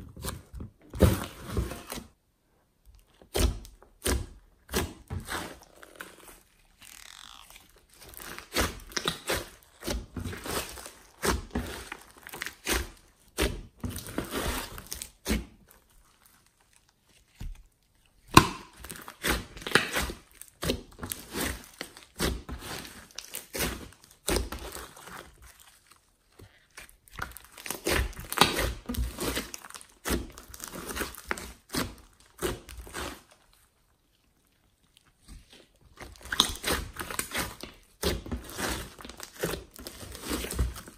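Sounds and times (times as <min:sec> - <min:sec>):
slime squishing with clicks: 0:02.8 - 0:40.9.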